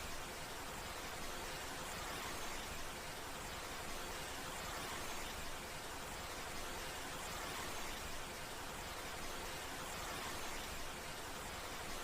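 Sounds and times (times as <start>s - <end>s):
steady ambient hiss: 0.0s - 12.0s.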